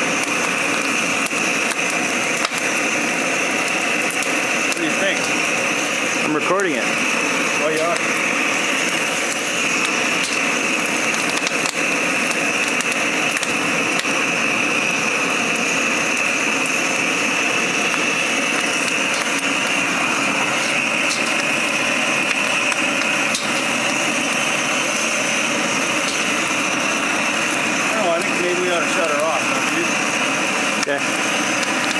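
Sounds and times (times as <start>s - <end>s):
propane burner flame rushing: 0.0s - 31.9s.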